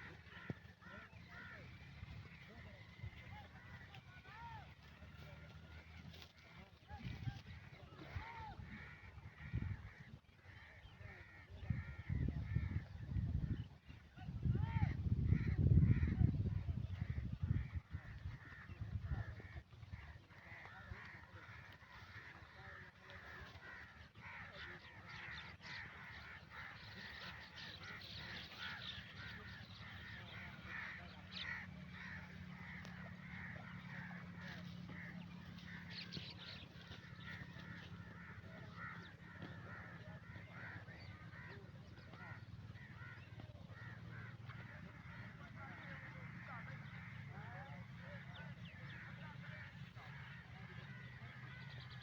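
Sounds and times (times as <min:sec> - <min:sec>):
birds calling and chattering: 0:00.0 - 0:52.0.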